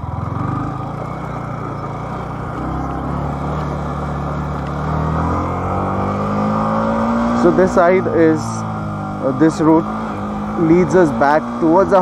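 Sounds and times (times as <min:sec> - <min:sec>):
road rumble: 0:00.0 - 0:12.0
vehicle engine running: 0:00.0 - 0:12.0.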